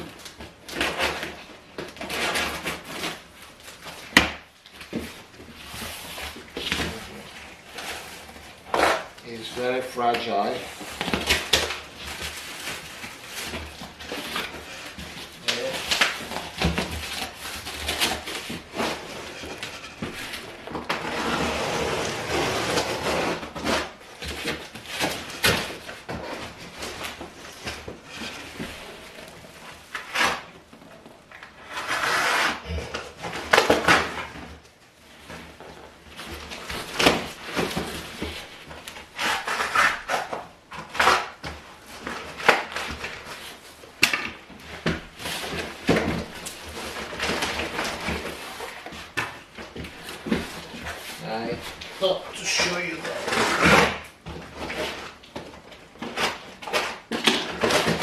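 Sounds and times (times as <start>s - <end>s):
cardboard scraping and rustling: 0.0s - 58.0s.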